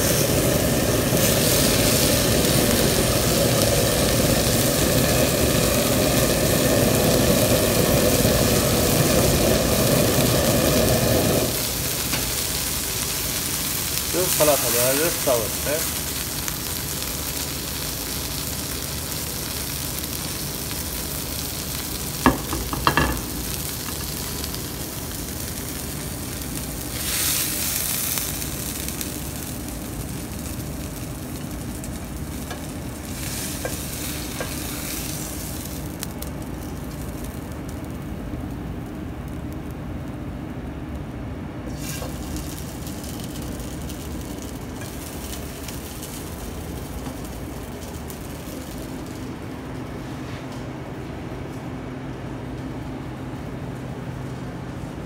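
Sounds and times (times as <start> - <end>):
fish sizzling in oil: 0.0 - 38.0, 41.7 - 49.4.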